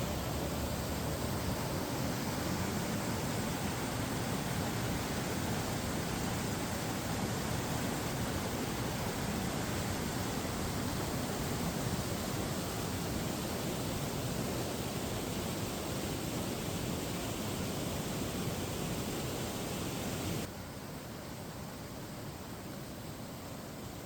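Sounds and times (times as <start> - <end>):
waterfall rushing: 0.0 - 20.5.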